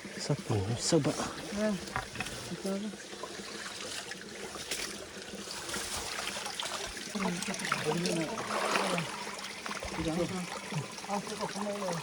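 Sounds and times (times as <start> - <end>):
stream water trickling: 0.0 - 12.0.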